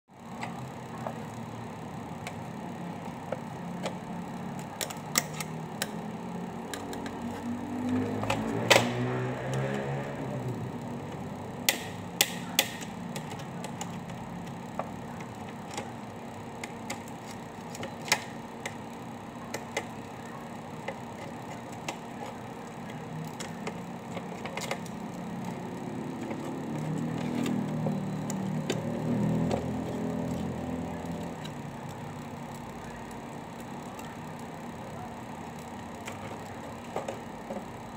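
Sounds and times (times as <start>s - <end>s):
steady low hum: 0.1s - 37.9s.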